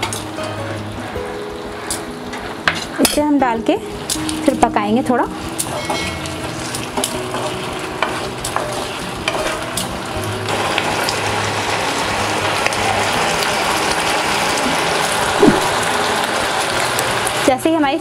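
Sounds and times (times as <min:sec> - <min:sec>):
sauce sizzling and bubbling in a wok: 0:00.0 - 0:18.0.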